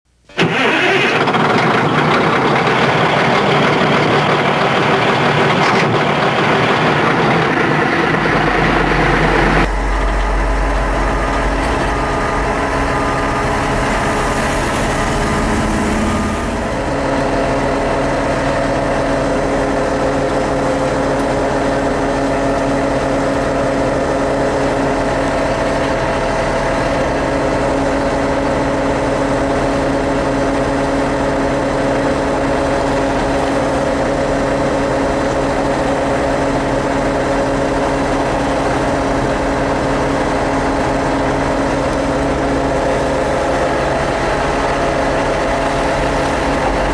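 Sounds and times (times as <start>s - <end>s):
excavator diesel engine running: 0.3s - 46.9s.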